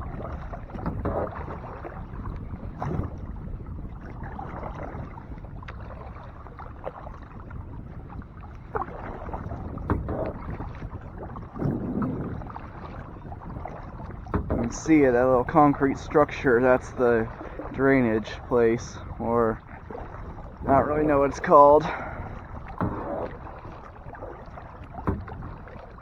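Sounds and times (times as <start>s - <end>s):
kayak paddle splashing in water: 0.0s - 26.0s.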